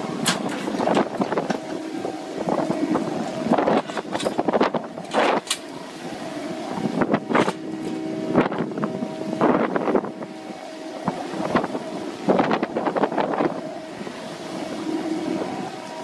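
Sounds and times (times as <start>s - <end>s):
deck machinery humming: 0.0s - 16.0s
wind on microphone: 0.0s - 16.0s.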